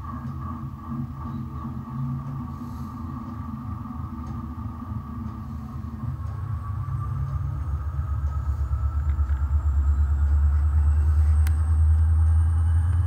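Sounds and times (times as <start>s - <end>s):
faint high whine: 0.0s - 13.0s
model locomotive rumbling: 0.0s - 13.0s.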